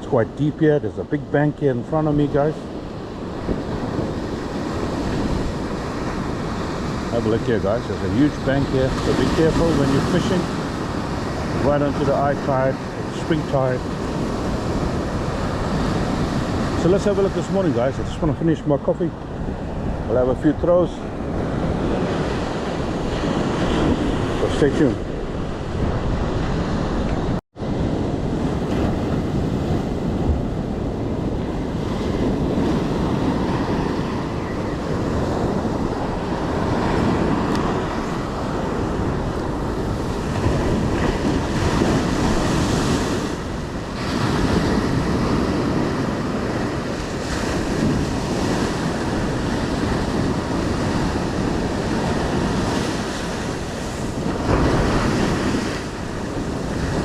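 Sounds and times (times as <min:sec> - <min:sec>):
wind buffeting microphone: 0:00.0 - 0:57.0
surf breaking on beach: 0:00.9 - 0:57.0.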